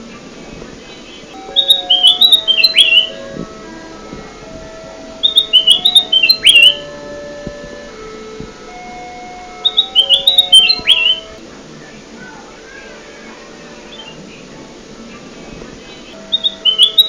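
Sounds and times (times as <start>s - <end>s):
bulbul chattering song: 0.0s - 17.0s
faint steady low tones: 0.0s - 17.0s.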